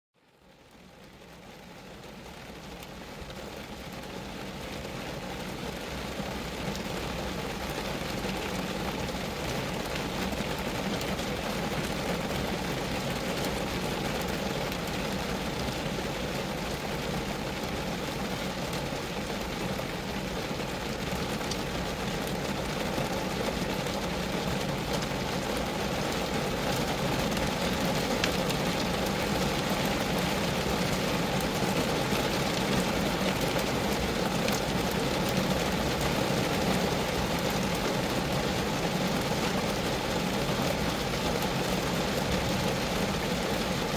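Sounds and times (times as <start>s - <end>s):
rain on a car body: 0.2s - 43.9s.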